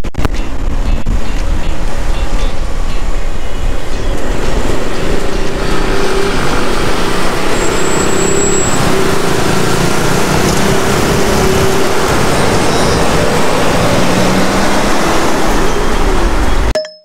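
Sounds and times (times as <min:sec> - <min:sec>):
engine hums: 0:00.0 - 0:16.8
road traffic driving past: 0:00.3 - 0:16.7.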